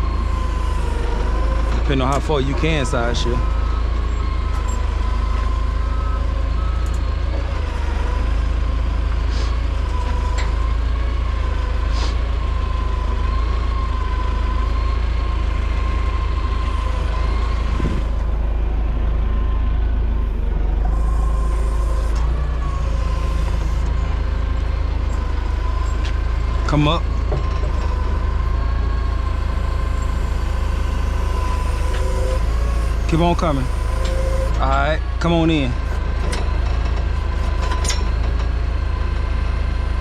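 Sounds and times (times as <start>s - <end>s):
diesel engine rumbling with whine: 0.0s - 40.0s.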